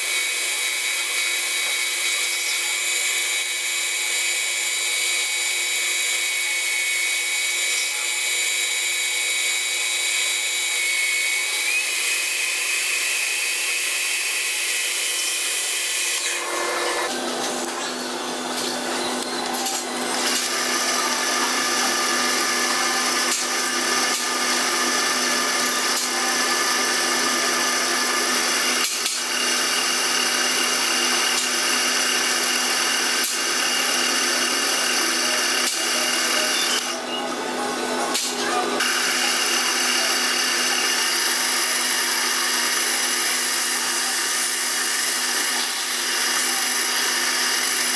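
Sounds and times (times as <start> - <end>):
drill boring into spinning bar: 0.0 - 37.1, 38.8 - 47.9
metal lathe whining: 0.0 - 47.9.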